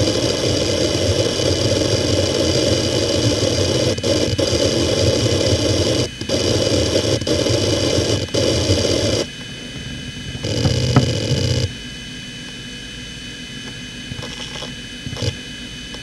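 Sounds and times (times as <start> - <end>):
hard drive seek chatter: 0.0 - 16.0
hard drive spindle whine: 0.0 - 16.0.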